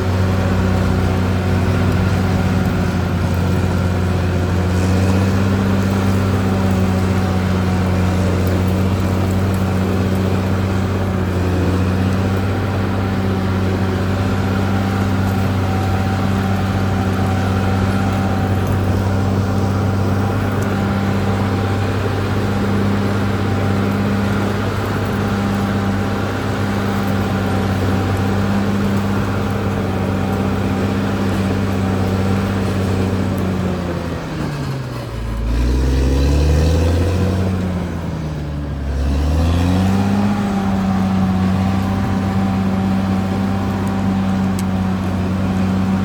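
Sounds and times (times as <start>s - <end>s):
bulldozer diesel engine droning: 0.0s - 46.0s.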